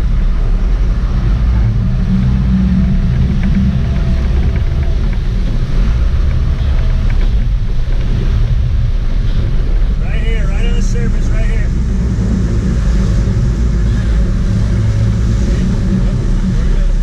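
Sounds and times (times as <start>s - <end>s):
boat engines rumbling: 0.0s - 17.0s
water churning and splashing: 0.0s - 17.0s.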